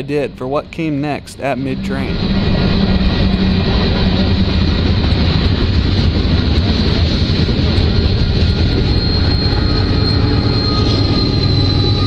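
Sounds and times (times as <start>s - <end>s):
diesel locomotive whine: 0.0s - 12.0s
freight train cars rumbling: 0.0s - 12.0s.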